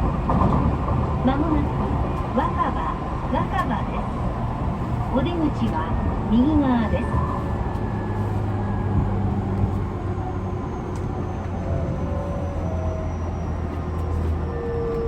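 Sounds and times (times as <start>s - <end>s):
train running rumble and hum: 0.0s - 15.0s.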